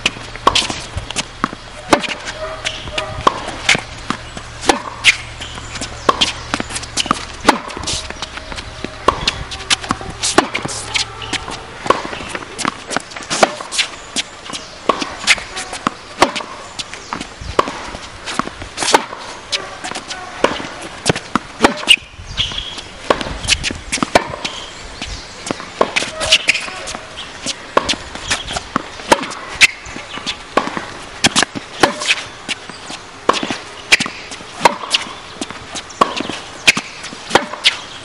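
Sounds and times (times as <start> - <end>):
tennis balls struck and bouncing: 0.0 - 38.0.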